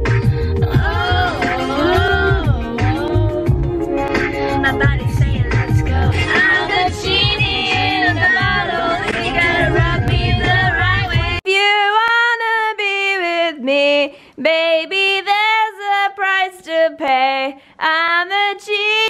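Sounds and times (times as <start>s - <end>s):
pop song with woman singing: 0.0s - 19.0s
woman singing unaccompanied: 0.5s - 3.8s, 4.6s - 19.0s.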